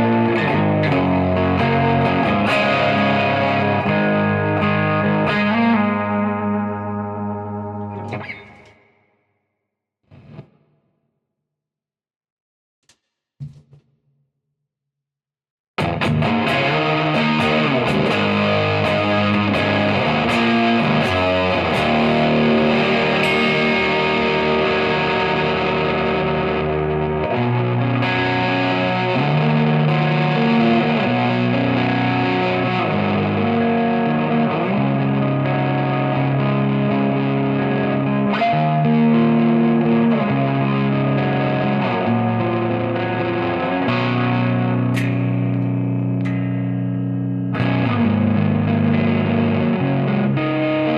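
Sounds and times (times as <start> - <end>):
distorted electric guitar riffs: 0.0 - 8.9, 10.0 - 10.6, 15.8 - 50.9.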